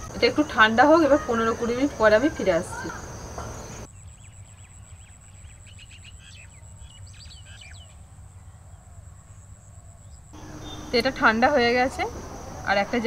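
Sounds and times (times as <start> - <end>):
small birds chirping: 0.0 - 8.8, 10.0 - 13.0.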